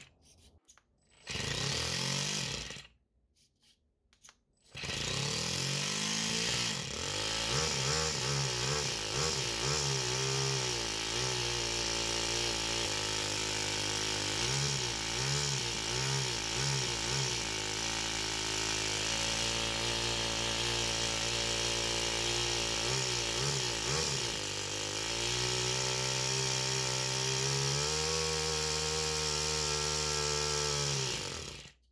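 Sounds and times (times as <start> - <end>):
model engine revving and idling: 1.2 - 2.8, 4.8 - 31.8.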